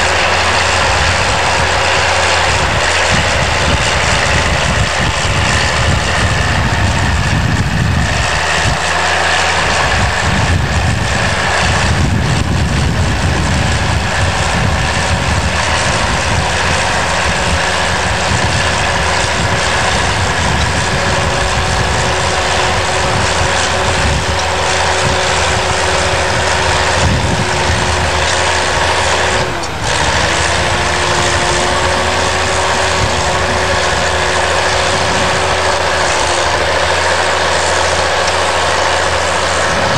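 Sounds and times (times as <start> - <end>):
diesel engine running: 0.0 - 39.9
mechanical whine: 0.0 - 39.9.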